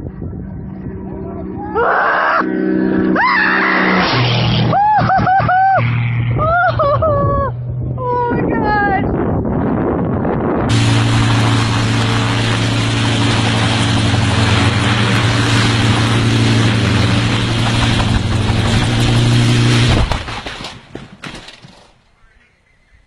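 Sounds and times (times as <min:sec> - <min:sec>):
engine running with low hum: 0:00.0 - 0:21.9.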